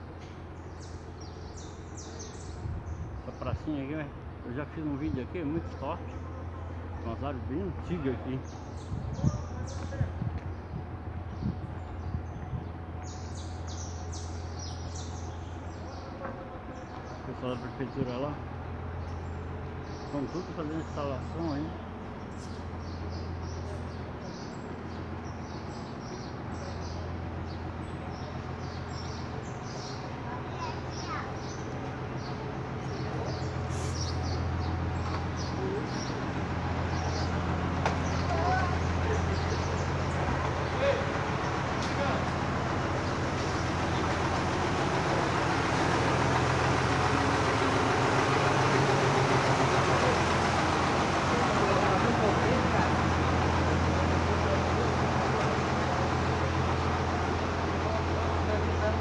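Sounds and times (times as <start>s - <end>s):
low hum of street background: 0.0s - 59.0s
small birds chirping: 0.0s - 59.0s
vehicle engine running: 0.0s - 59.0s.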